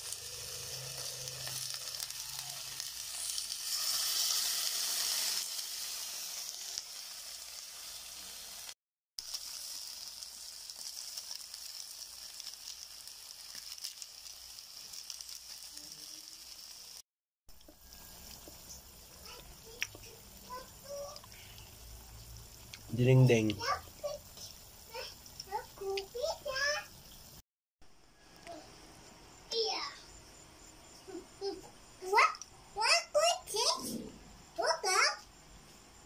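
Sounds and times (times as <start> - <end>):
vegetables sizzling in a pan: 0.0 - 27.4, 28.2 - 36.0.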